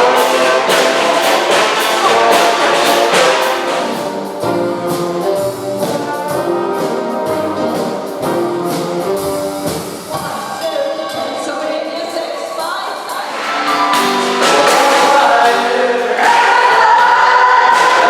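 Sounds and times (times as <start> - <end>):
big band swing brass: 0.0 - 10.6, 13.2 - 18.0
cymbals: 0.0 - 11.2, 13.1 - 18.0.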